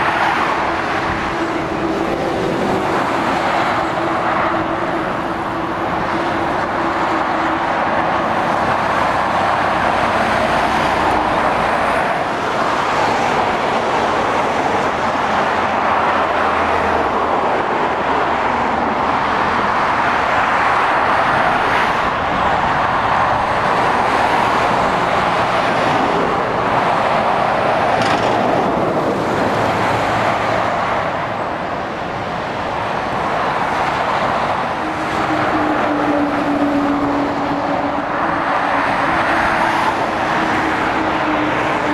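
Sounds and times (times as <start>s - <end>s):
tyre and road roar: 0.0s - 41.9s.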